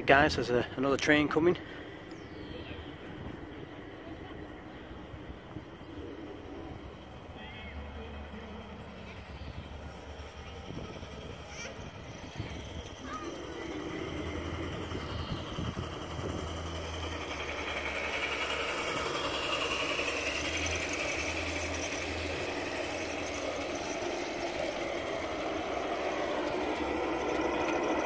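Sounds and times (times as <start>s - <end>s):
model train whirring: 0.0s - 28.0s.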